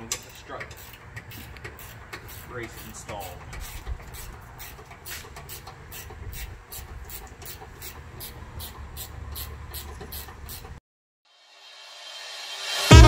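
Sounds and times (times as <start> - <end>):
ratchet wrench clicking: 0.0 - 10.8.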